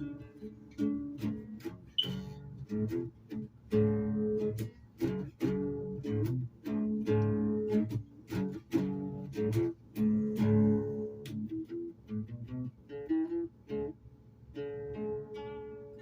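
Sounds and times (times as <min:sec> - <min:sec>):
strummed string instrument chords: 0:00.0 - 0:13.9.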